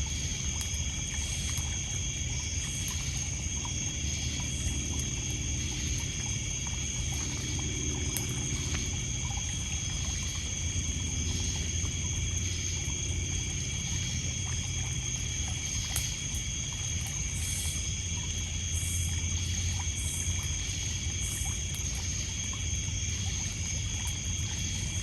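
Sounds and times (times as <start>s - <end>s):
crickets and insects chirping: 0.0s - 25.0s
faint campfire crackles: 0.0s - 25.0s
water lapping on pebbles: 0.0s - 25.0s.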